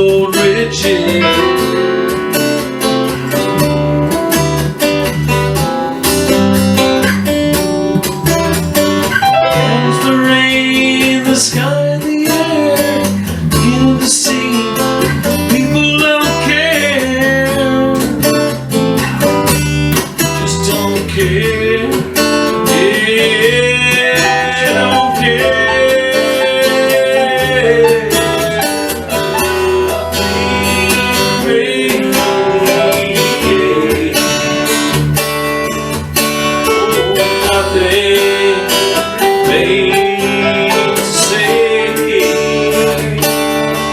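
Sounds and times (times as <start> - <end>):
guitar strumming: 0.0 - 43.9.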